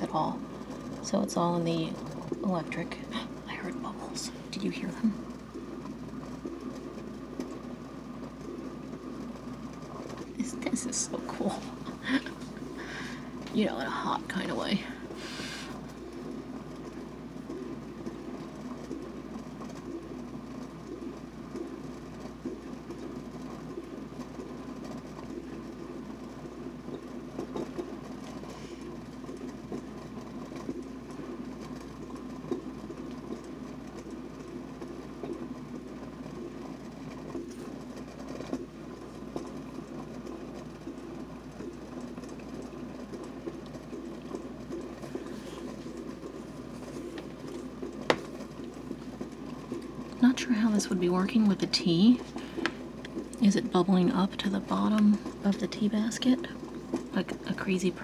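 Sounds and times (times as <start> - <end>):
kettle water bubbling: 0.0 - 58.0.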